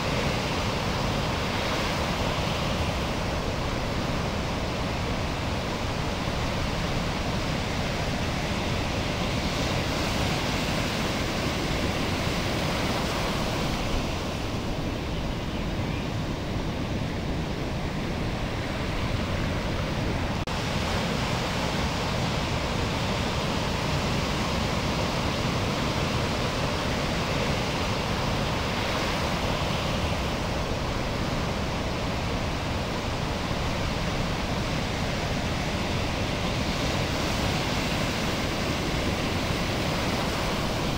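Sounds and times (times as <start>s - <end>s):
ocean surf rushing: 0.0s - 40.9s.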